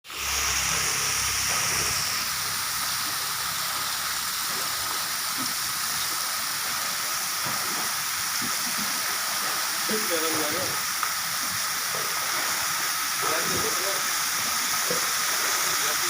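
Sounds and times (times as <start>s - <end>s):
falling water hiss: 0.0s - 16.0s.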